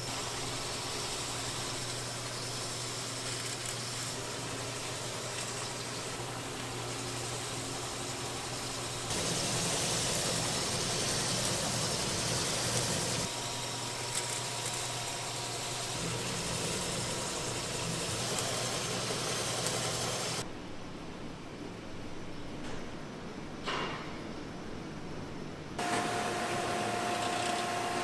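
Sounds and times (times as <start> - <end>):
machinery humming with hiss: 0.0 - 28.0.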